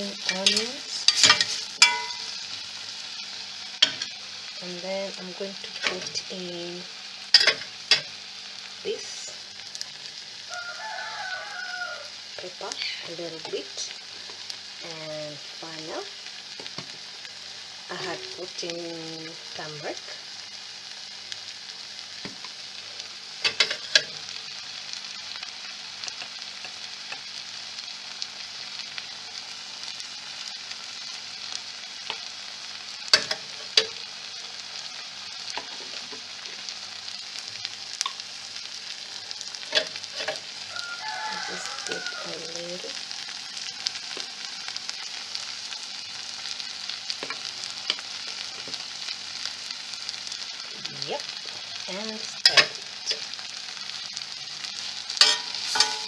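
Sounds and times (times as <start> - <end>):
vegetables sizzling in a pot: 0.0 - 56.0.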